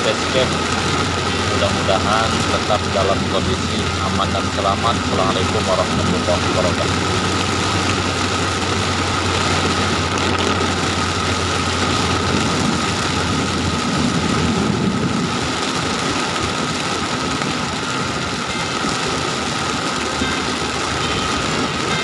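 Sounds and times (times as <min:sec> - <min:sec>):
car engine hum: 0:00.0 - 0:22.0
heavy rain on car roof: 0:00.0 - 0:22.0
tyres on wet road: 0:00.0 - 0:22.0.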